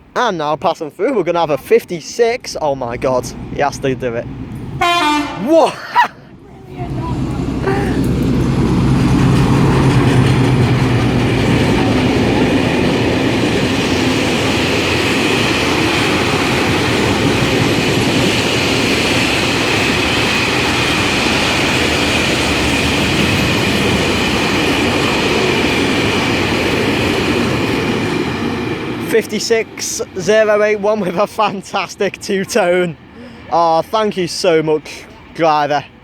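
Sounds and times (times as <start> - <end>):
train rumbling over rails: 1.4 - 36.0
diesel locomotive engine drone: 2.2 - 36.0.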